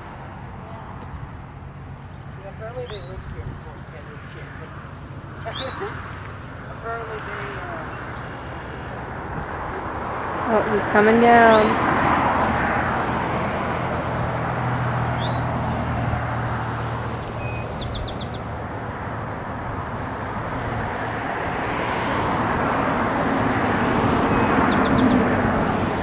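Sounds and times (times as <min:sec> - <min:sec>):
road traffic passing: 0:00.0 - 0:26.0
bird chirping: 0:00.6 - 0:21.9, 0:23.9 - 0:25.7.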